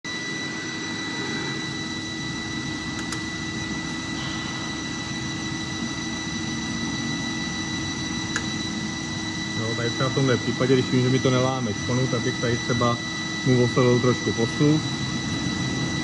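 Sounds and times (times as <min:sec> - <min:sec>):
lathe whining and humming: 0:00.0 - 0:16.0.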